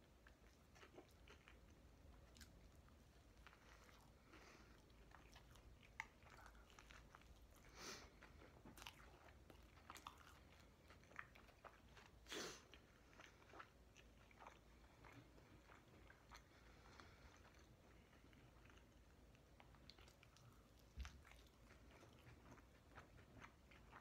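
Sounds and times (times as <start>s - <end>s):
chewing with mouth clicks: 0.0s - 24.0s.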